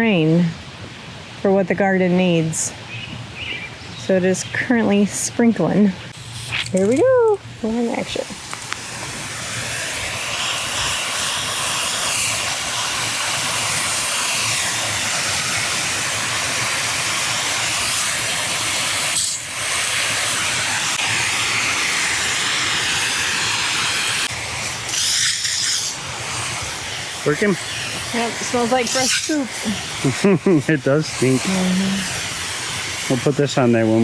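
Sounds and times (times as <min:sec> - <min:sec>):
hose nozzle spraying water: 0:05.5 - 0:34.0.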